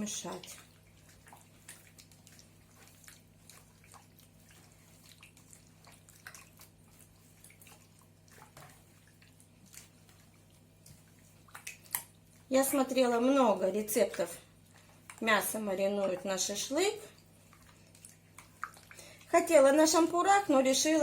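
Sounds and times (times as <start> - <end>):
wet squelches of meat mixing: 0.0 - 21.0.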